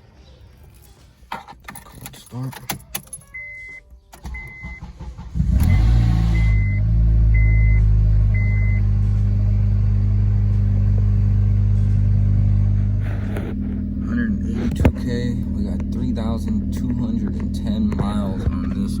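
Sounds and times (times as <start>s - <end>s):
car engine starting and idling: 0.7s - 19.0s.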